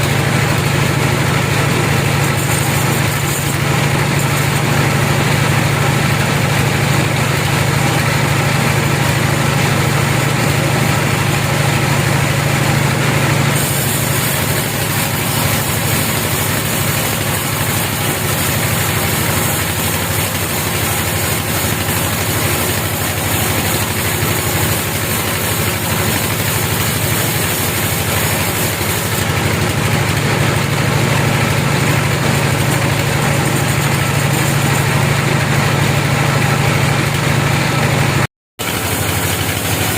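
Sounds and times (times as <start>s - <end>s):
engine-driven saw humming: 0.0s - 39.9s.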